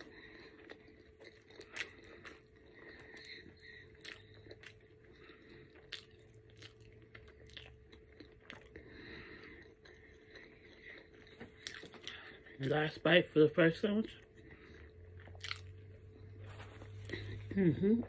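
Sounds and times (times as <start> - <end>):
person chewing food: 0.0 - 13.0, 14.0 - 18.0
faint steady hum: 0.0 - 18.0.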